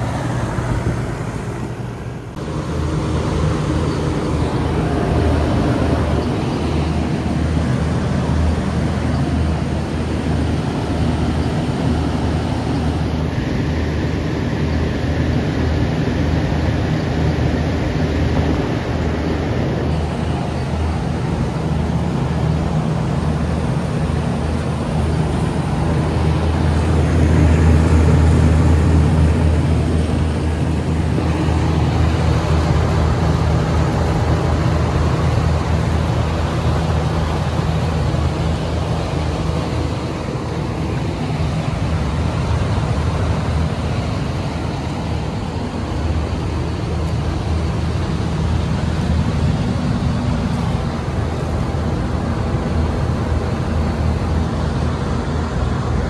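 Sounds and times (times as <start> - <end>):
air conditioner hum: 0.0 - 56.0
condenser fans rushing: 0.0 - 56.0.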